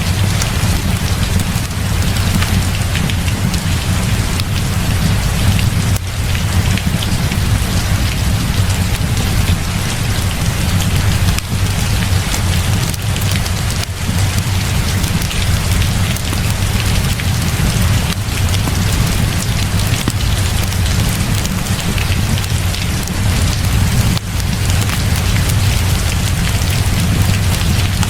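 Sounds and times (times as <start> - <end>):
deep continuous rumble: 0.0 - 28.0
heavy rain pouring: 0.0 - 28.0.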